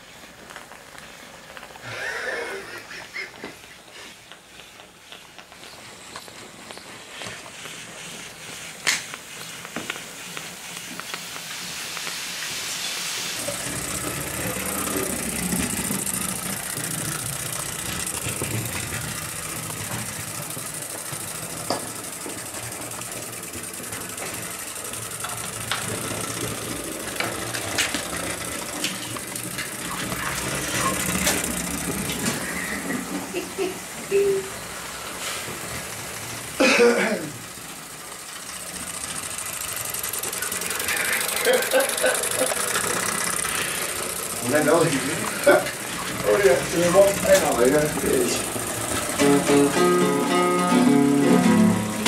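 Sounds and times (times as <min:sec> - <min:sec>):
small engine mechanical clatter: 0:00.0 - 0:52.0
steam hiss: 0:00.0 - 0:52.0.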